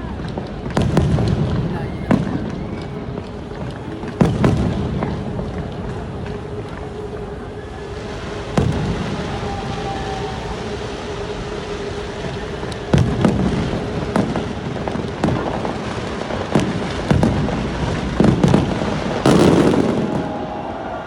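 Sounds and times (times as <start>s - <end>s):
fireworks sharp bangs: 0.0s - 21.0s
steady background noise: 0.0s - 21.0s.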